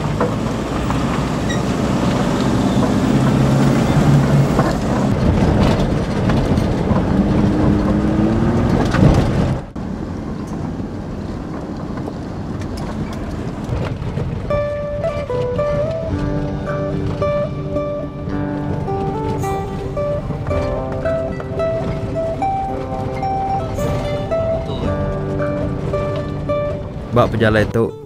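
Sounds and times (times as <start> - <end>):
vehicle engine running: 0.0 - 27.7
road and tyre noise: 0.0 - 27.9.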